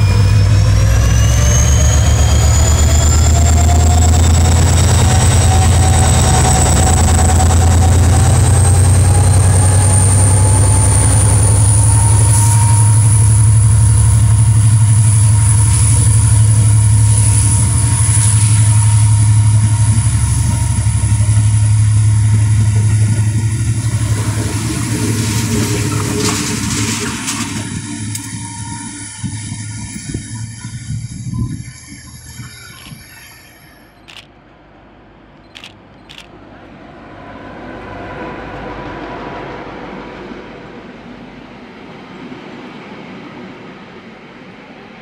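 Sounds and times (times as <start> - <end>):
locomotive engine drone: 0.0 - 45.0
rising engine whine: 0.0 - 45.0.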